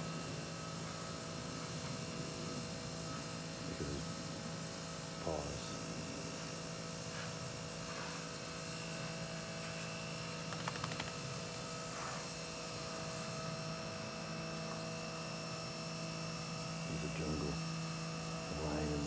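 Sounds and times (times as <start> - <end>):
steady hum of held tones: 0.0 - 19.0.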